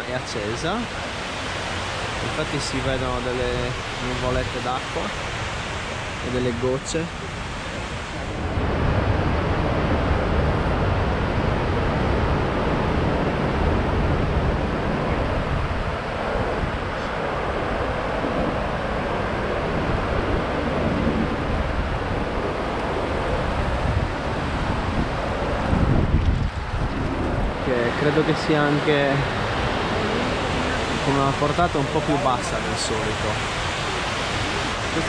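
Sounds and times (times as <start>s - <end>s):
waterfall rushing: 0.0s - 13.6s, 14.6s - 35.0s
wind buffeting microphone: 3.0s - 35.0s.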